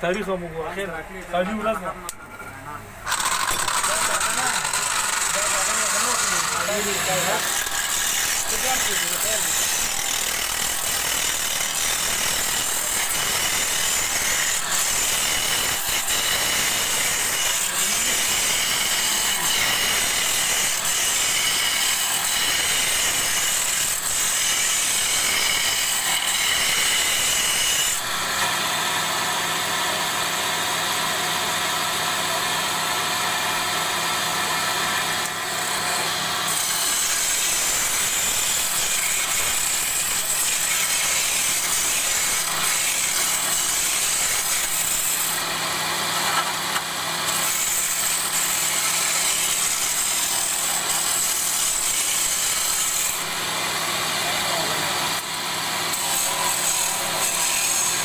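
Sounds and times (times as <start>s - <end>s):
wood being cut on a lathe: 3.0s - 58.0s.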